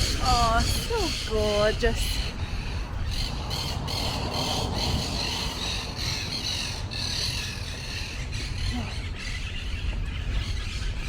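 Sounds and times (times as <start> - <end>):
birds squawking harshly: 0.0 - 11.0
steady low rumble: 0.0 - 11.0.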